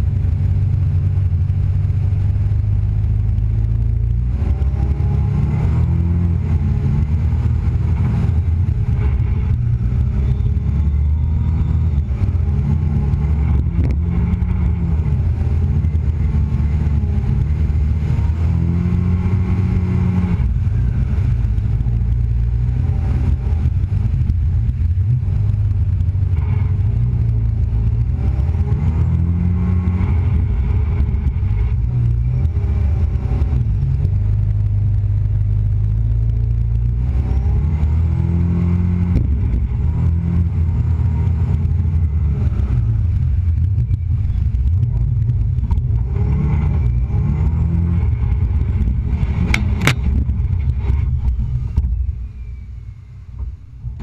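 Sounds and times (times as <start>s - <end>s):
boat engine running at speed: 0.0s - 37.4s, 38.2s - 54.0s.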